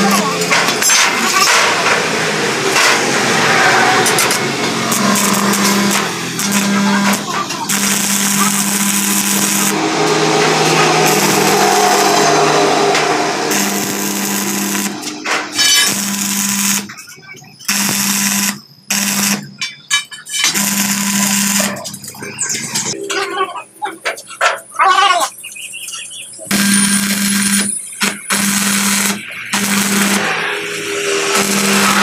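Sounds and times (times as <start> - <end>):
welding arc crackling and hissing: 0.0 - 23.0, 26.5 - 32.0.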